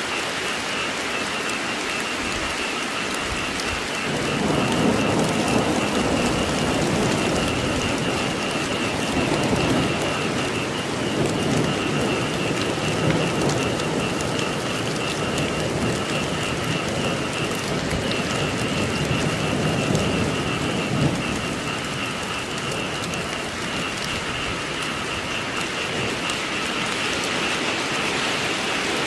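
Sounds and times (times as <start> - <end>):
rain pattering: 0.0 - 29.0
rolling thunder: 1.1 - 29.0.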